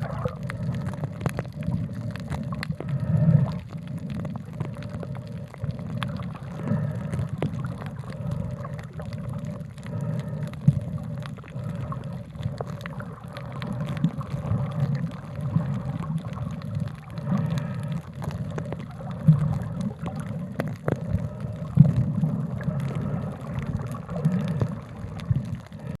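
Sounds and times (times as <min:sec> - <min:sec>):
faint steady hum: 0:00.0 - 0:26.0
water gurgling and sloshing: 0:00.0 - 0:26.0.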